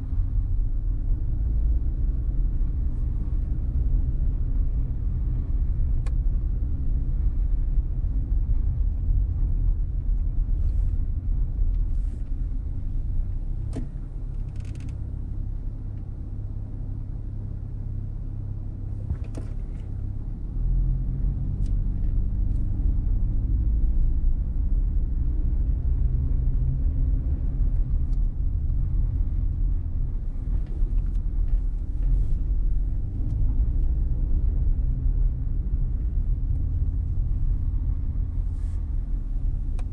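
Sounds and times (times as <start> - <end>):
car driving road and engine rumble: 0.0 - 39.9.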